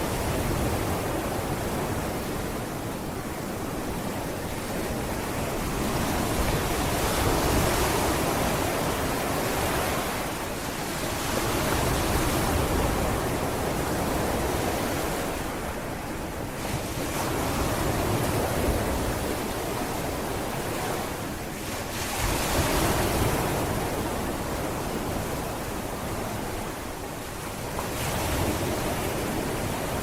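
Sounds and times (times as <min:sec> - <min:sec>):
sea waves washing onto beach: 0:00.0 - 0:30.0
wind on microphone: 0:00.0 - 0:30.0.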